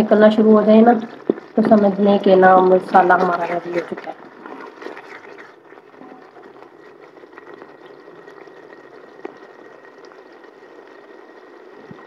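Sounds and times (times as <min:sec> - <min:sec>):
sauce sizzling in hot oil: 0:00.0 - 0:12.0
wooden spoon stirring: 0:00.2 - 0:10.3.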